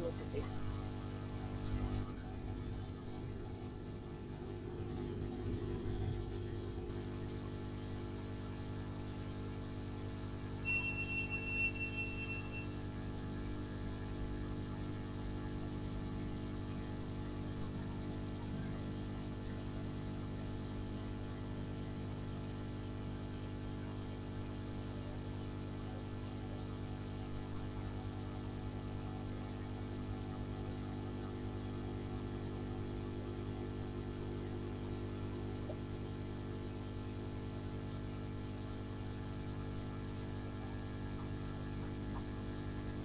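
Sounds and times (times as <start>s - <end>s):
electrical hum with hiss: 0.0s - 43.0s.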